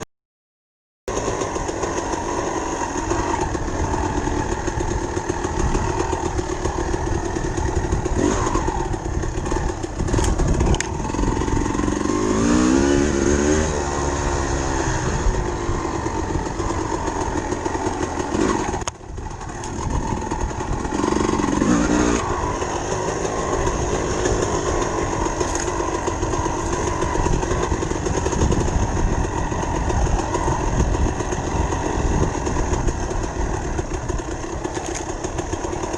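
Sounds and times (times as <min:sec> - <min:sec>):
dirt bike engine revving: 0:01.1 - 0:35.9.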